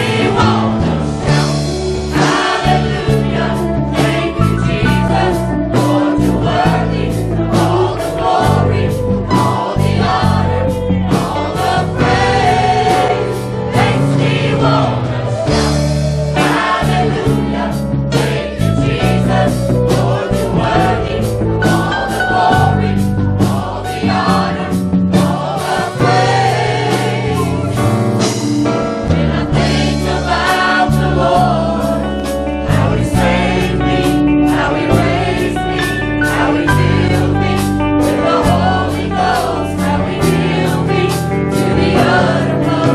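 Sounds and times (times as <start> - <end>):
band with bass and drums: 0.0 - 42.9
choir singing: 0.0 - 42.9.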